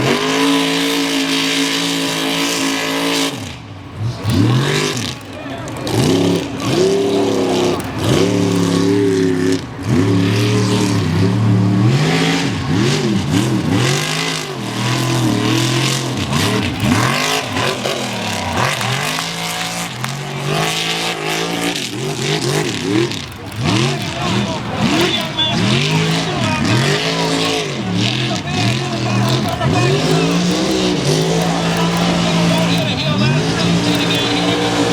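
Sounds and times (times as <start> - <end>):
truck engine revving: 0.0 - 34.9.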